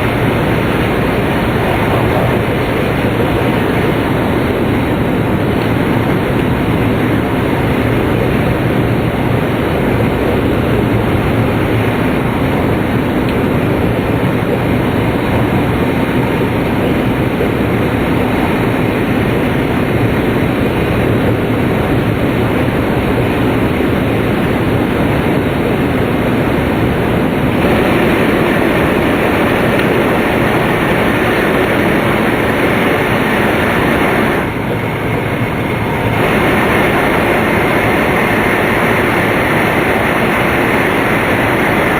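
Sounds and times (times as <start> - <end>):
train interior rushing rumble: 0.0 - 41.9.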